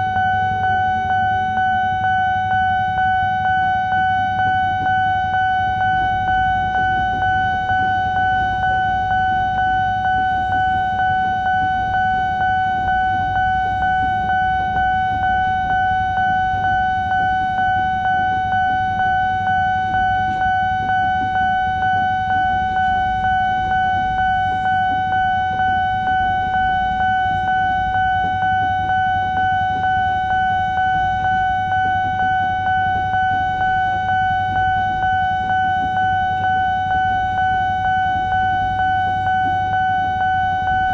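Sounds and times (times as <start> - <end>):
level crossing alarm pulsing: 0.0 - 40.9.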